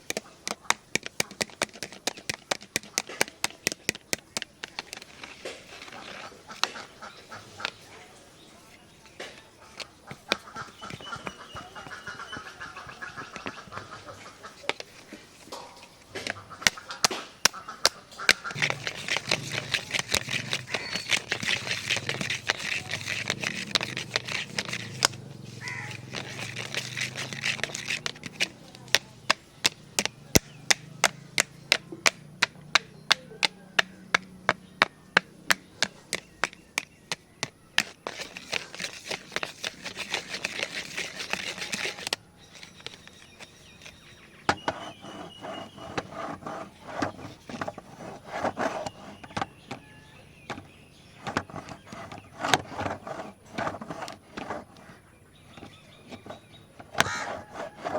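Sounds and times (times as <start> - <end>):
fingernails tapping on plastic: 0.0 - 7.8, 9.3 - 15.0, 16.1 - 43.2, 43.8 - 57.9
fingernails scratching on plastic: 0.0 - 8.0, 8.6 - 57.9.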